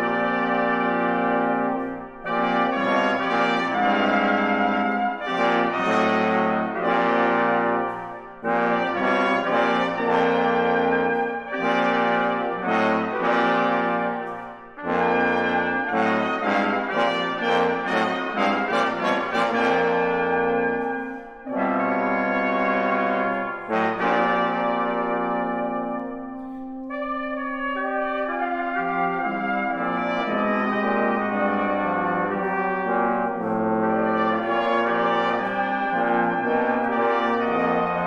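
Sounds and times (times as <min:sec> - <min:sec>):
brass ensemble playing chords: 0:00.0 - 0:38.0.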